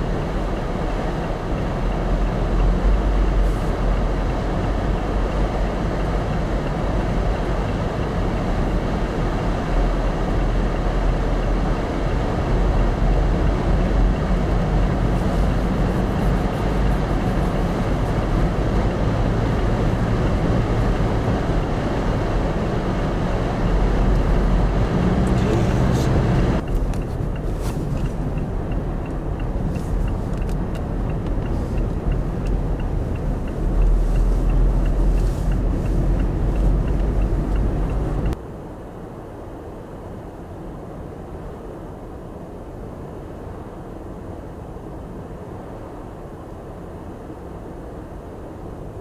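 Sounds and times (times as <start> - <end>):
vehicle road and engine rumble: 0.0 - 49.0.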